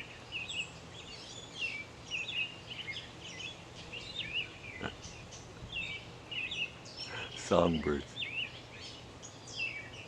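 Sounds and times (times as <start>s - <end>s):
faint outdoor background noise: 0.0s - 10.0s
songbirds singing: 0.0s - 10.0s.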